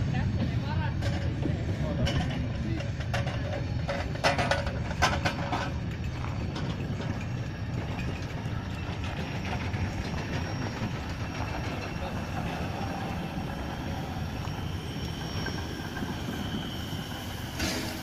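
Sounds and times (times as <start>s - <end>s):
steam locomotive rumbling: 0.0s - 18.0s.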